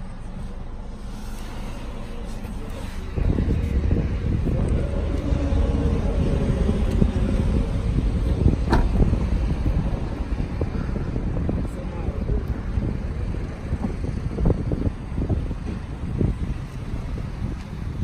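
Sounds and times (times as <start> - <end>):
wind buffeting microphone: 1.8 - 18.0.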